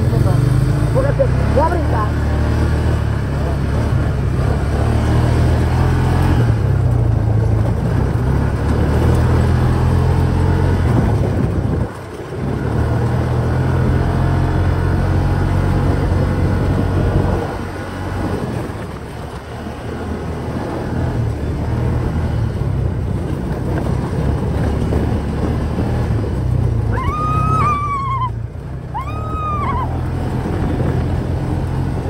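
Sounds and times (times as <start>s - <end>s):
vehicle rumbling: 0.0s - 32.0s.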